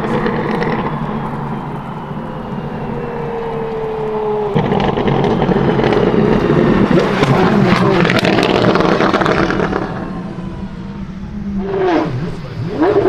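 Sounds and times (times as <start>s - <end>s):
engine at full throttle: 0.0s - 13.0s
exhaust crackles: 0.0s - 13.0s.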